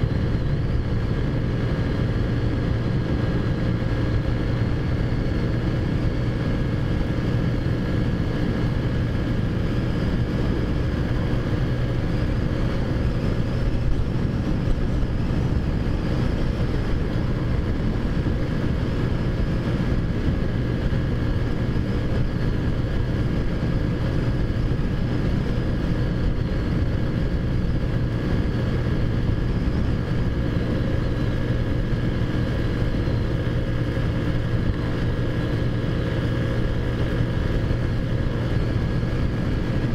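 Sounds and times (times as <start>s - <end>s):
scooter engine cruising: 0.0s - 39.9s.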